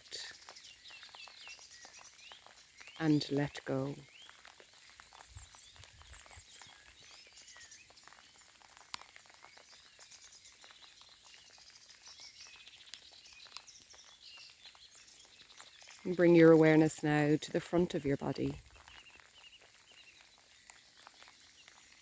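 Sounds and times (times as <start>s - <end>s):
raindrops pattering: 0.0s - 22.0s
small birds chirping: 0.0s - 22.0s.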